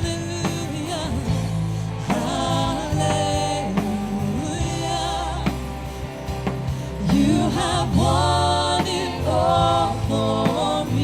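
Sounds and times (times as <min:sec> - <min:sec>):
bass line: 0:00.0 - 0:11.0
worship band playing: 0:00.0 - 0:11.0.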